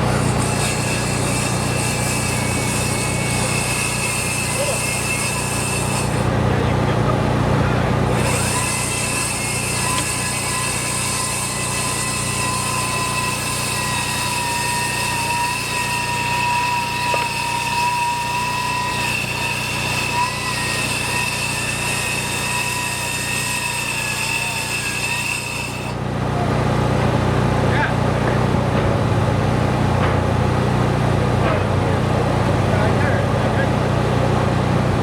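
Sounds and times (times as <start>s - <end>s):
power tool whining: 0.0s - 35.0s.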